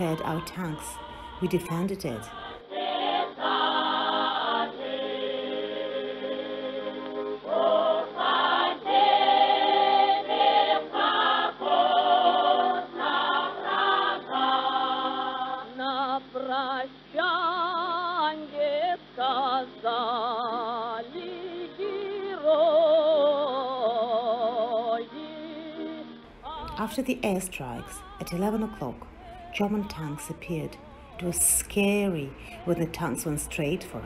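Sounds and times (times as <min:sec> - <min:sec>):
choir singing held notes: 0:00.0 - 0:34.0.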